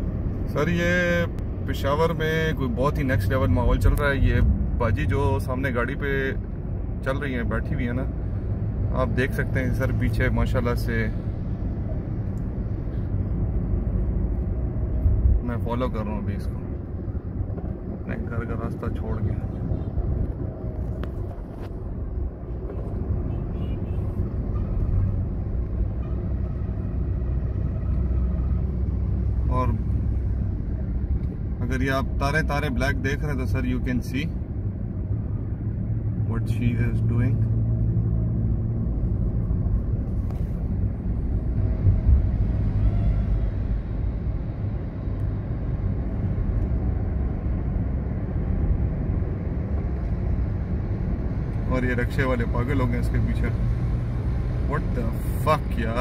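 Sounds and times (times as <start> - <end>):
vehicle engine and tyre rumble: 0.0 - 56.0.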